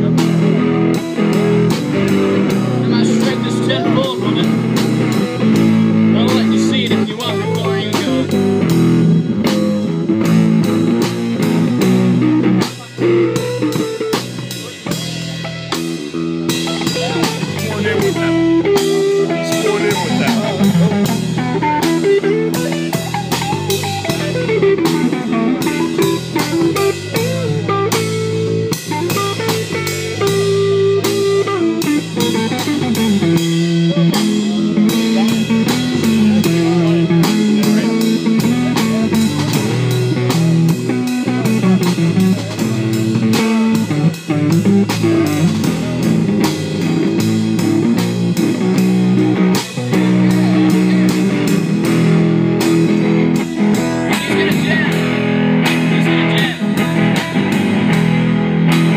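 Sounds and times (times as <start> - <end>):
drum kit beat: 0.0 - 58.9
electric guitar playing: 0.0 - 58.9.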